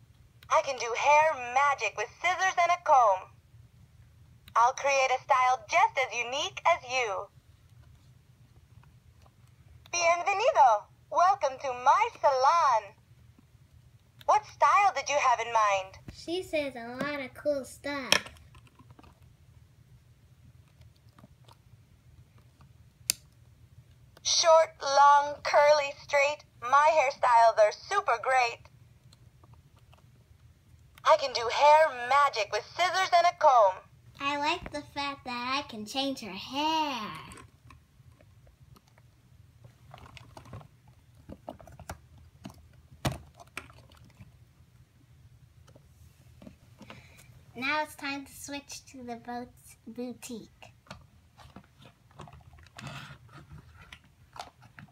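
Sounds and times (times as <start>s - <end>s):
low room hum: 0.0s - 54.9s.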